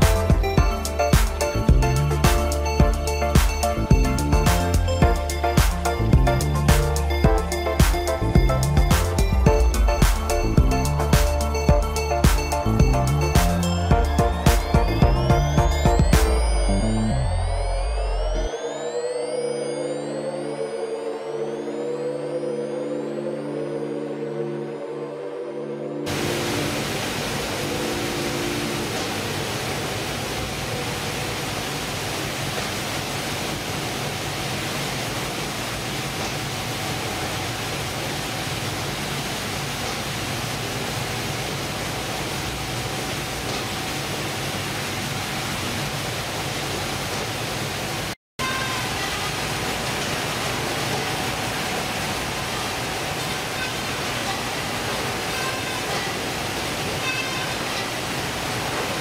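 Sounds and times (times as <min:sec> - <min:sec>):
processing machinery hiss and hum: 0:00.0 - 0:21.8, 0:26.1 - 0:48.2, 0:48.8 - 0:59.0.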